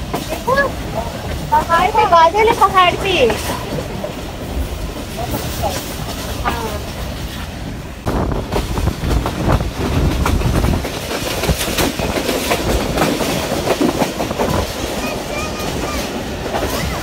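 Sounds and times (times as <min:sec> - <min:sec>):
train rumbling: 0:00.0 - 0:17.0
wheels clicking over rail joints: 0:00.0 - 0:17.0.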